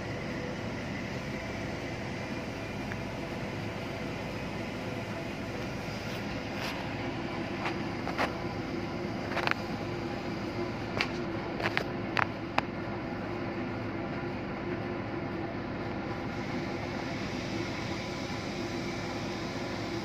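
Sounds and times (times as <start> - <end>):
machinery drone: 0.0 - 20.0.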